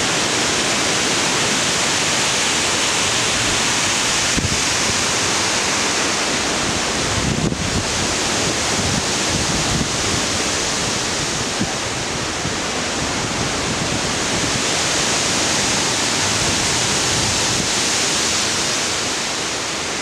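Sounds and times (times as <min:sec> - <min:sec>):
wind rushing through leaves: 0:00.0 - 0:20.0.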